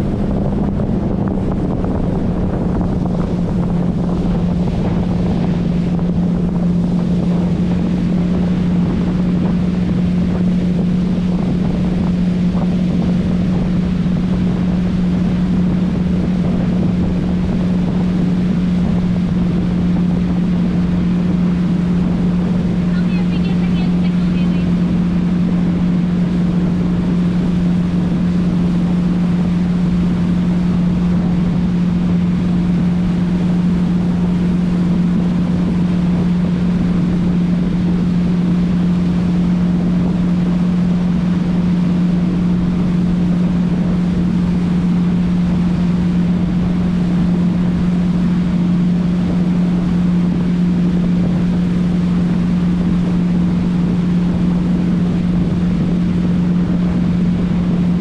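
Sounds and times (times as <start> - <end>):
motorboat engine humming: 0.0 - 58.0
water noise: 0.0 - 58.0
wind on microphone: 0.0 - 58.0.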